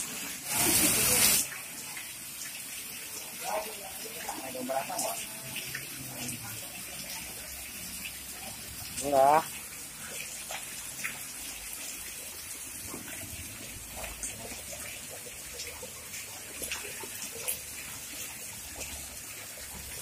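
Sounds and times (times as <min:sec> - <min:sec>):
water pouring into basins: 0:00.0 - 0:20.0
water trickling: 0:00.0 - 0:20.0.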